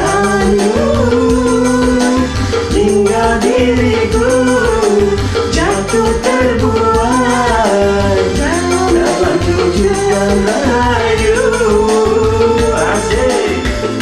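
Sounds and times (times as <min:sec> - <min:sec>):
karaoke backing track: 0:00.0 - 0:14.0
person singing: 0:00.0 - 0:14.0.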